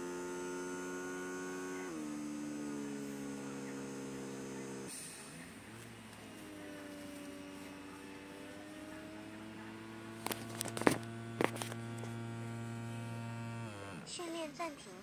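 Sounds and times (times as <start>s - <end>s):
small air pump humming: 0.0s - 14.6s.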